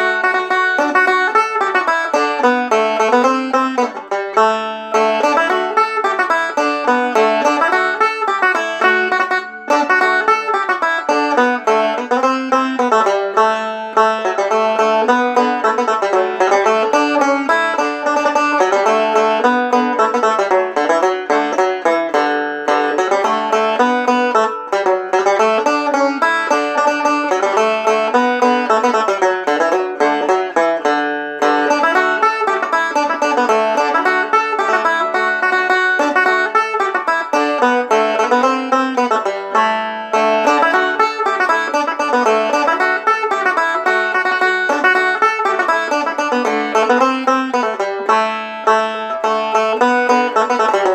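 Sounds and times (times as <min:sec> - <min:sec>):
banjo playing fast picked notes: 0:00.0 - 0:50.9.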